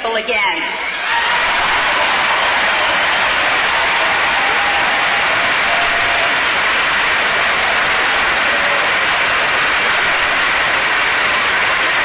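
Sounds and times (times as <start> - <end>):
crowd applauding: 0.7 - 12.0.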